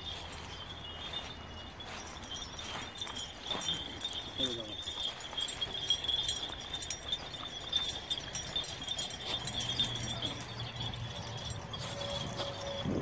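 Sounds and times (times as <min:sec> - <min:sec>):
chain clinking: 0:00.0 - 0:13.0
high-pitched ringing: 0:00.0 - 0:13.0.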